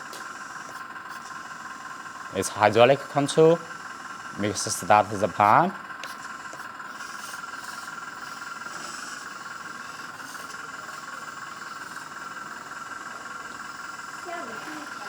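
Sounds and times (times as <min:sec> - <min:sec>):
small hydraulic pump whining: 0:00.0 - 0:15.0.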